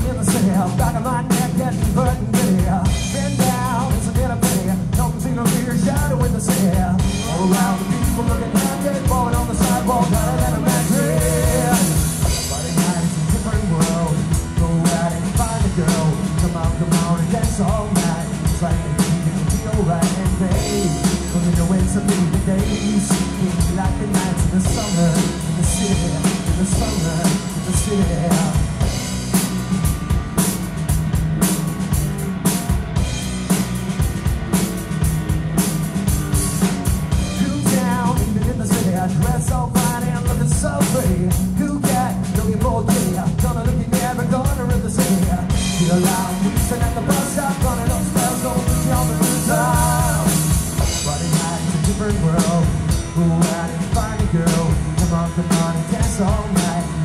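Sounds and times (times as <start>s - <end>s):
drum kit beat: 0.0s - 57.0s
electric bass: 0.0s - 57.0s
electric guitar: 0.0s - 57.0s.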